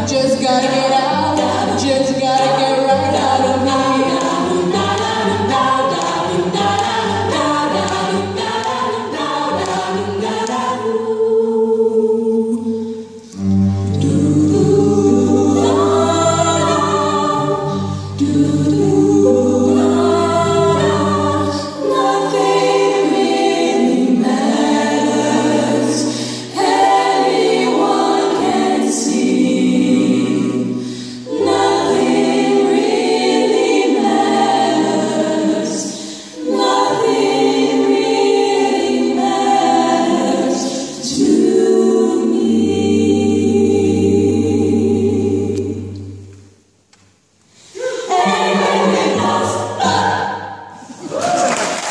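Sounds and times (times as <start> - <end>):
women singing close harmony: 0.0 - 13.2, 13.8 - 46.3, 47.6 - 50.9.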